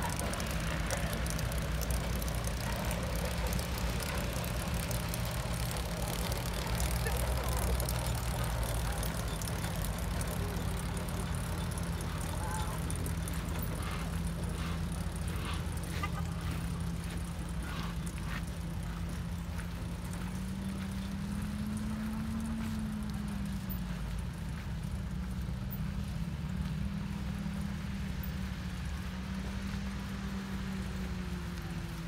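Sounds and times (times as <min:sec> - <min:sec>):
faint clicks: 0:00.0 - 0:27.7
truck engine running: 0:00.0 - 0:32.0.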